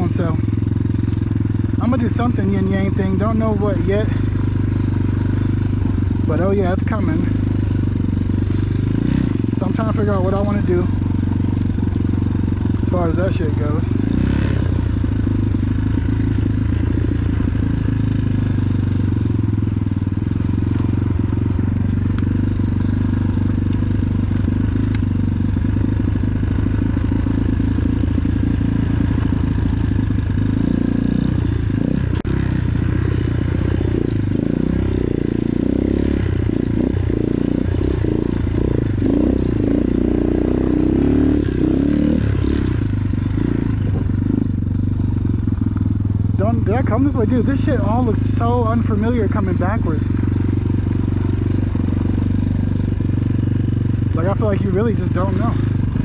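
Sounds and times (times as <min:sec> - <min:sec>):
dirt bike engine running: 0:00.0 - 0:56.0
engine knocks and clatter: 0:00.0 - 0:56.0.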